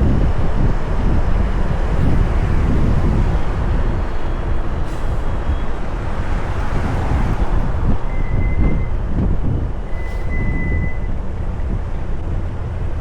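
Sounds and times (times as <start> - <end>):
road and wind noise: 0.0 - 13.0
truck engine rumble: 0.0 - 13.0.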